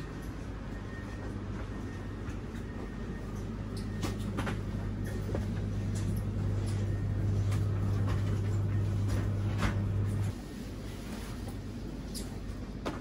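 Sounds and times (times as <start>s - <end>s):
low hum in train carriage: 0.0s - 13.0s.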